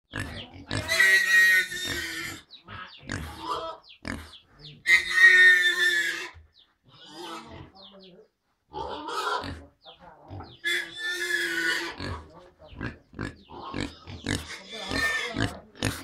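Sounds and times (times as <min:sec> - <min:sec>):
pigs grunting: 0:00.1 - 0:07.8, 0:08.7 - 0:16.0
pigs squealing: 0:00.1 - 0:07.8, 0:08.7 - 0:09.7, 0:10.3 - 0:16.0.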